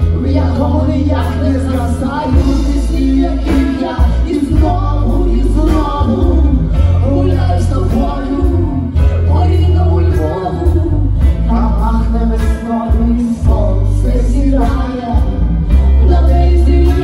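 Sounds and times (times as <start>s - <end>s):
live band playing: 0.0s - 17.0s
woman singing: 0.2s - 17.0s.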